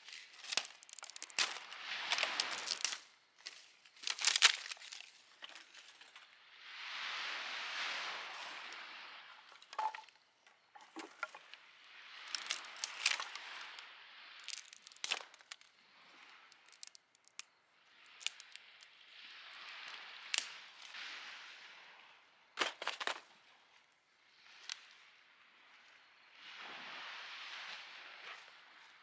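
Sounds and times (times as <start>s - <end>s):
small waves washing onto beach: 0.0s - 9.8s, 10.9s - 22.4s, 23.2s - 29.0s.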